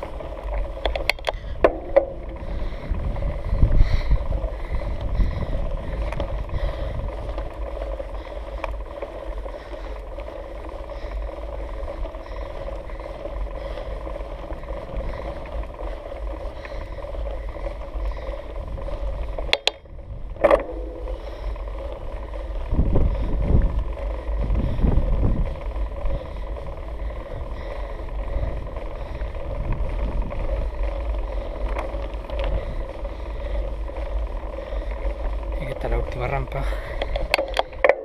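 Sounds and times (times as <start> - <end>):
tyre and wind rumble: 0.0 - 38.0.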